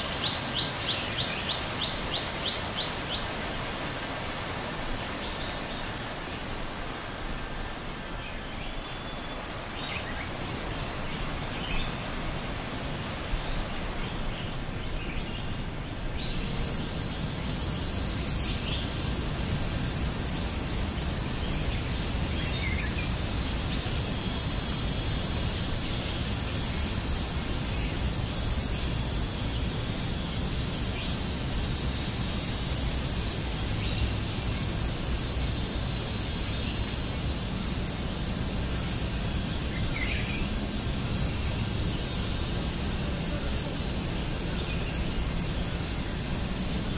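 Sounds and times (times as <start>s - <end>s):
high-pitched insect drone: 0.0s - 46.9s
loud high insect buzz: 0.0s - 46.9s.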